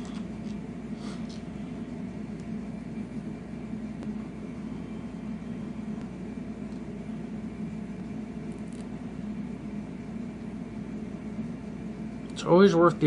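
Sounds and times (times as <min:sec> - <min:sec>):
room machinery hum: 0:00.0 - 0:13.0.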